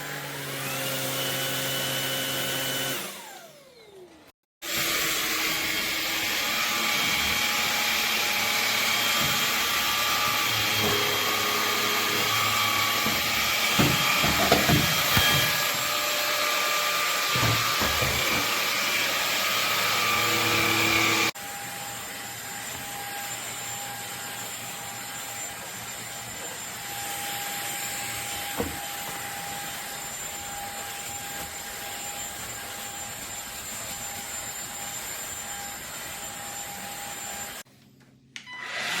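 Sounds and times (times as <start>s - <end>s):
stick vacuum cleaner whining: 0.0s - 37.7s.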